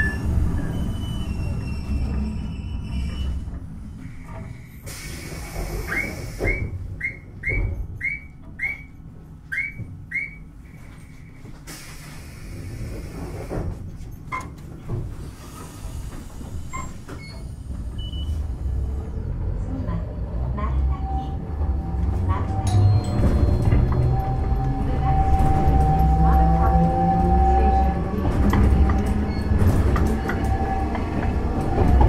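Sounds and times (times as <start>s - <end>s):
tram rumbling: 0.0s - 32.0s
tram running noise: 0.0s - 32.0s.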